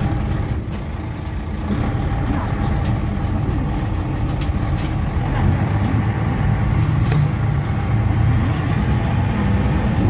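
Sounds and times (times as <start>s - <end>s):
bus diesel engine: 0.0s - 10.0s
road rumble: 0.0s - 10.0s.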